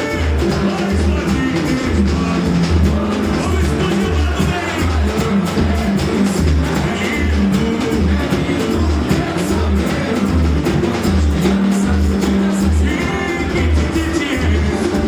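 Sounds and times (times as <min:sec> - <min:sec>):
deep surdo drum beat: 0:00.0 - 0:15.0
samba band playing: 0:00.0 - 0:15.0.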